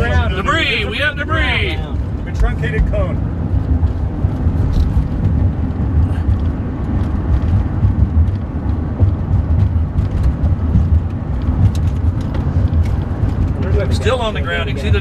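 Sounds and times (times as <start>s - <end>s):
van rumbling from inside cabin: 0.0s - 15.0s
wind buffeting: 0.0s - 15.0s.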